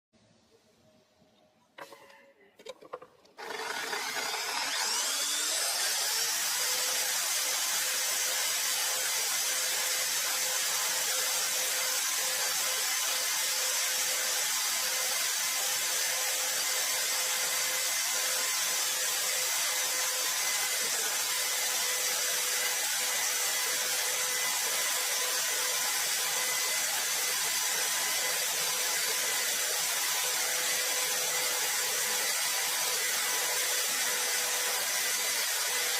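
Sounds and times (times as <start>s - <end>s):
power tool whining: 3.3s - 35.9s.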